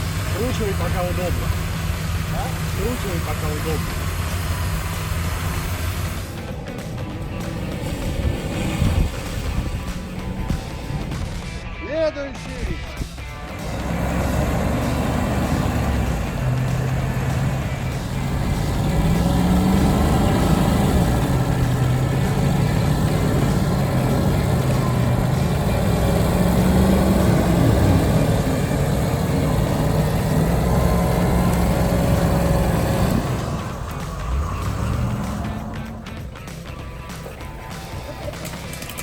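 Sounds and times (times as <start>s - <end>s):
steady rushing noise: 0.0s - 38.0s
off-road vehicle engine: 0.0s - 39.0s.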